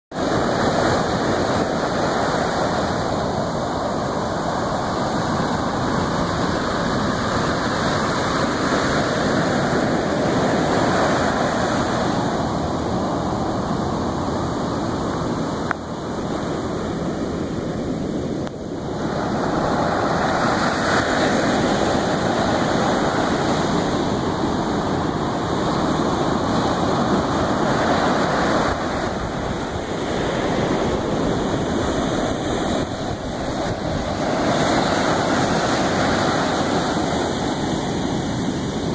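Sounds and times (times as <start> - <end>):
ocean surf breaking on beach: 0.1 - 38.9.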